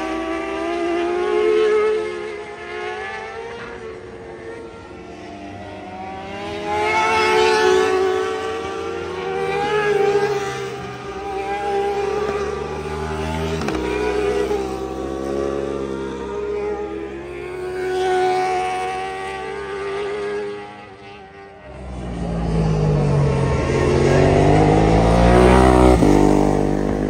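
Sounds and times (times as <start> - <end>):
racing motorcycles passing: 0.0 - 27.0.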